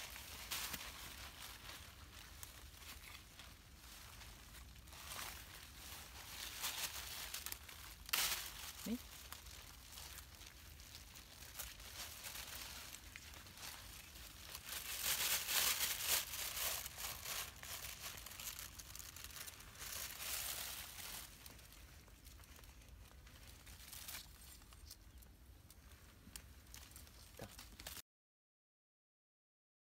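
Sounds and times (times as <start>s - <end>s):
plastic bag crinkling: 0.0s - 25.3s
leaves rustling and tearing: 0.0s - 28.0s.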